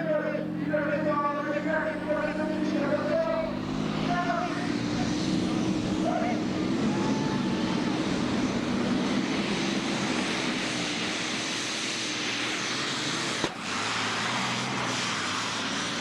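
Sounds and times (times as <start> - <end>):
tractor engine running loud: 0.0 - 16.0.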